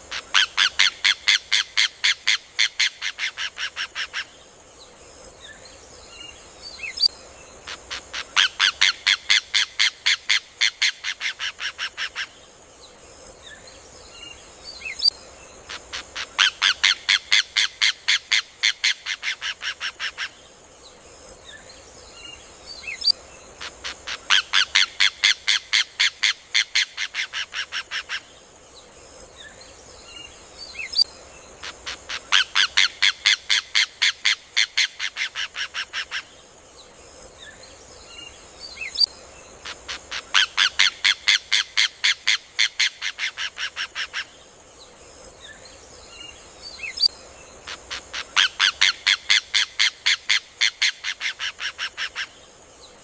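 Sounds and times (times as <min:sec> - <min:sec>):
faint high hiss: 0:00.0 - 0:53.0.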